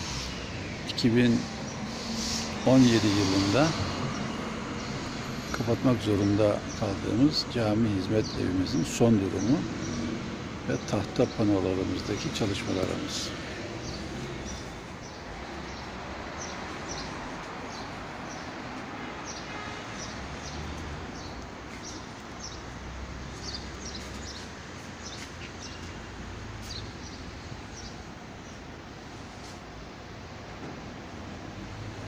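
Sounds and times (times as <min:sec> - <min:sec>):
small birds chirping: 0:00.0 - 0:29.7
low hum of street ambience: 0:00.0 - 0:32.0.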